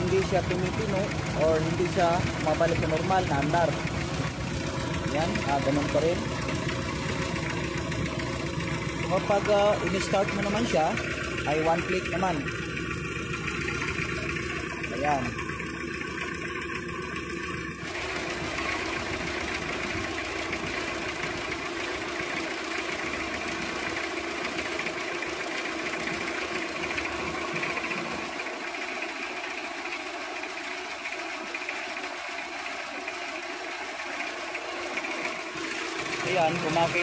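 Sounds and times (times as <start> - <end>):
diesel engine idling unevenly: 0.0 - 37.0.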